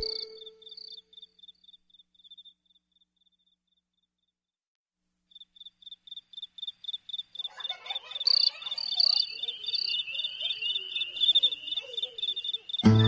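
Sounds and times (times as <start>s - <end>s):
insect chorus: 0.0s - 3.8s, 5.3s - 13.0s
insect pulsed chirp: 0.0s - 3.8s, 5.3s - 13.0s.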